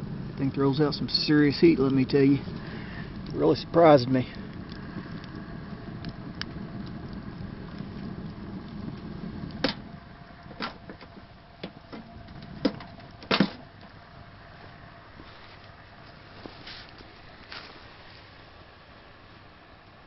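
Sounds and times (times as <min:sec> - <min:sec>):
fire rumbling in stove: 0:00.0 - 0:20.0
wood fire cracking: 0:00.0 - 0:20.0.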